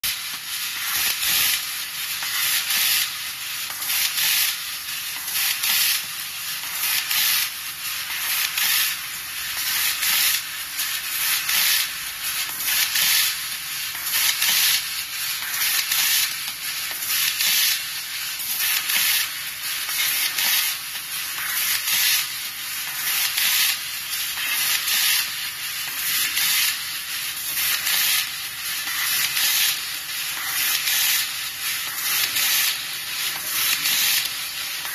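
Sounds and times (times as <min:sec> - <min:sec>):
laser cutter hissing: 0:00.0 - 0:34.9.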